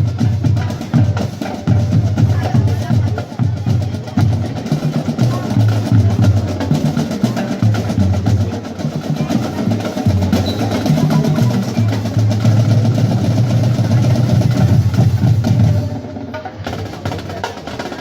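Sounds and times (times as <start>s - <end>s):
snare drumming and rolls: 0.0s - 18.0s.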